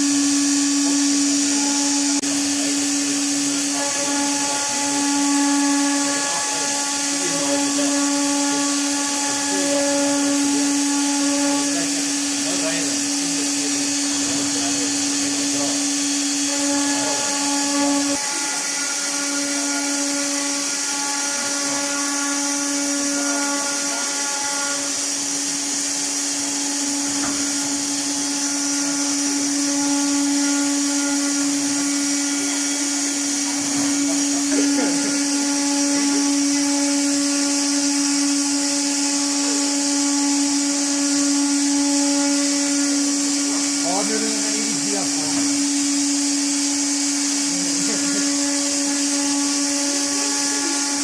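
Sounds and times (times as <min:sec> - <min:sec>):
woodworking machine motor hum: 0:00.0 - 0:51.0.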